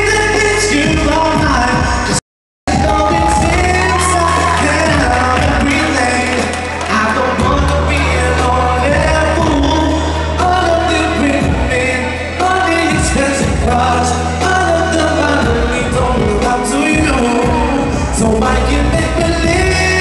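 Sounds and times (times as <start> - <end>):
instrumental accompaniment with bass: 0.0 - 20.0
man singing into microphone: 0.0 - 20.0.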